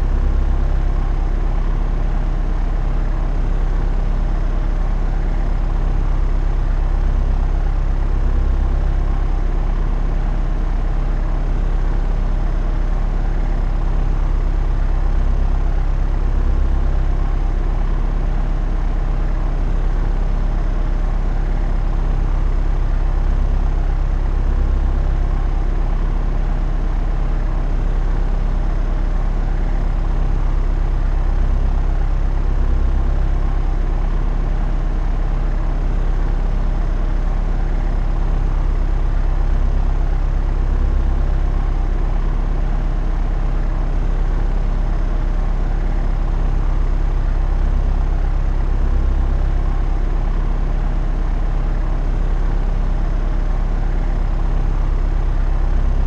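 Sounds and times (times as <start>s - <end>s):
propeller airplane engine drone: 0.0s - 56.0s.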